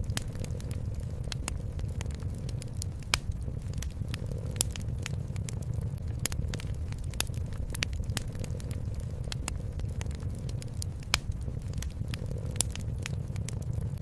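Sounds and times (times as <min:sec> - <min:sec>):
low rumble: 0:00.0 - 0:14.0
wood fire crackling: 0:00.0 - 0:14.0.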